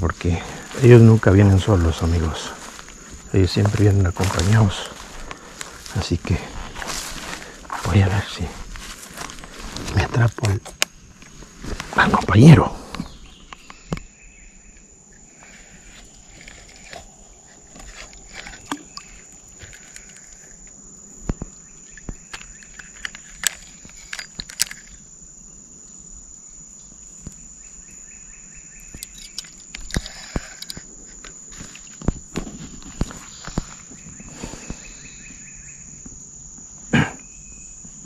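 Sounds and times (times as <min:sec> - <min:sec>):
footsteps through undergrowth: 0:00.0 - 0:13.8, 0:14.8 - 0:25.0, 0:28.9 - 0:36.0
high insect drone: 0:00.0 - 0:38.0.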